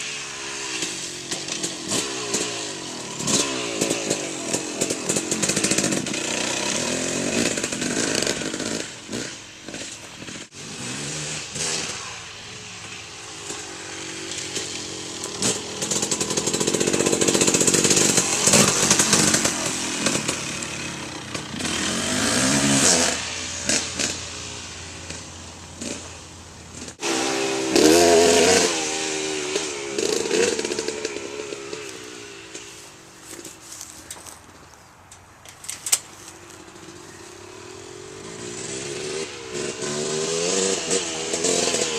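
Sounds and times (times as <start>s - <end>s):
dirt bike engine revving: 0.0s - 34.4s, 36.3s - 41.9s.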